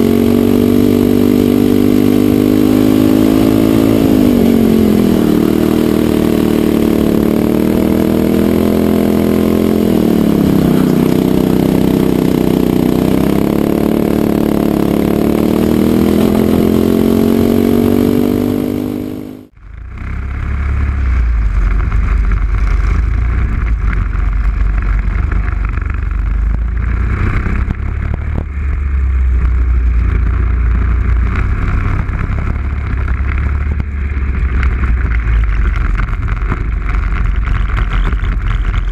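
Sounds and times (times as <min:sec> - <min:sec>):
deep noisy rumble: 0:00.0 - 0:38.9
racing kart engine: 0:00.0 - 0:38.9.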